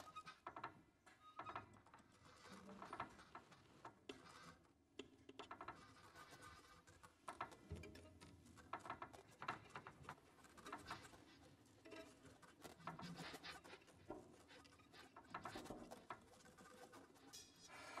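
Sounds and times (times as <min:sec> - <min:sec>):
faint clicking and scratching: 0:00.0 - 0:18.0.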